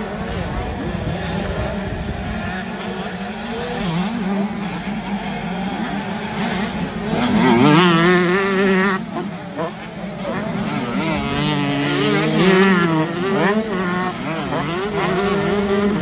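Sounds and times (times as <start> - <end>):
motocross bikes revving: 0.0 - 16.0
motorbike passing close: 0.0 - 16.0.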